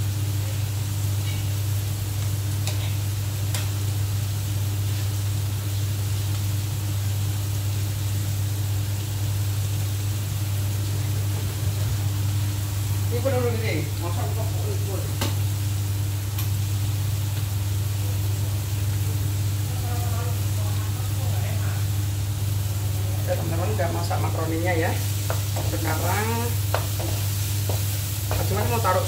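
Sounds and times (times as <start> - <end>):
food sizzling in a frying pan: 0.0 - 29.0
steady low hum and hiss: 0.0 - 29.0.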